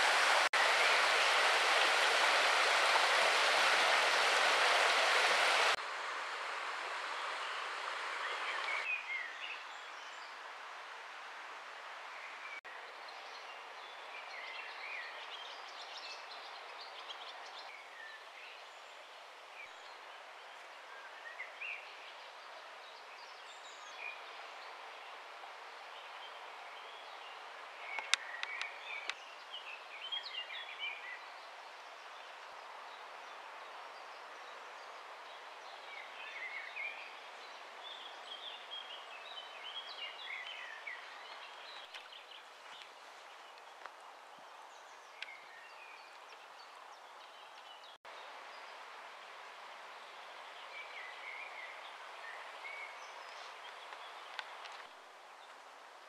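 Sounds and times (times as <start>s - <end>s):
outdoor background hiss: 0.0s - 56.0s.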